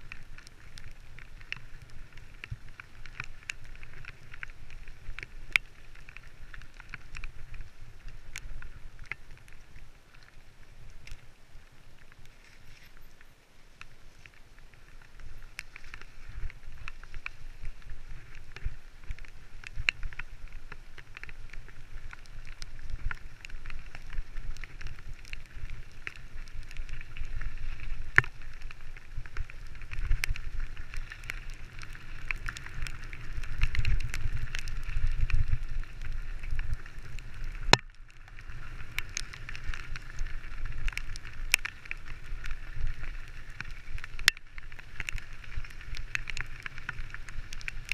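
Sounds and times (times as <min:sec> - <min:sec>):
bike tyre noise: 0:00.0 - 0:47.9.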